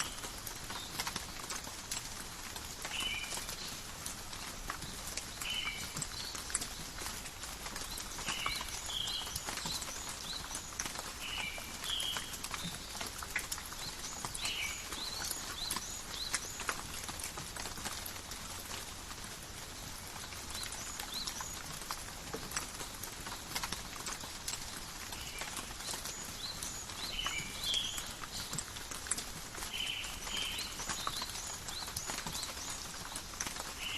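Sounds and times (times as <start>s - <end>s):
drips on leaves: 0.0s - 33.9s
rain falling in a forest: 0.0s - 33.9s.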